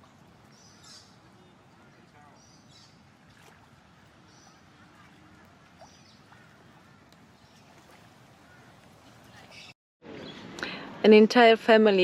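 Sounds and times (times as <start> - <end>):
distant low bird calls: 0.0 - 10.8.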